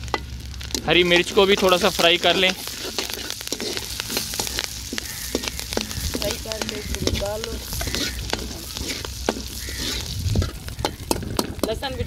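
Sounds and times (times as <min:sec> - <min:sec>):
chillies sizzling in hot oil: 0:00.0 - 0:12.0
metal spoon stirring: 0:00.7 - 0:11.8.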